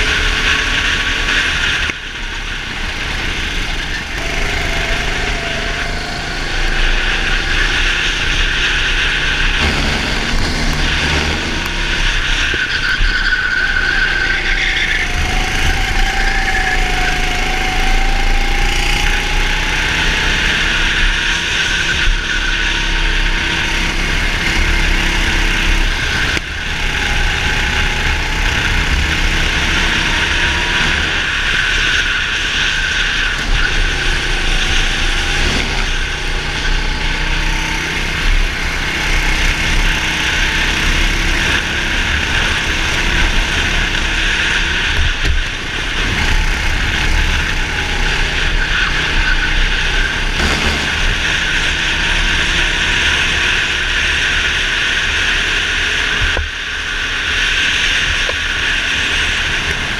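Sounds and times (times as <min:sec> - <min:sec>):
go-kart engine running: 0:00.0 - 0:59.9
rushing noise: 0:00.0 - 0:59.9.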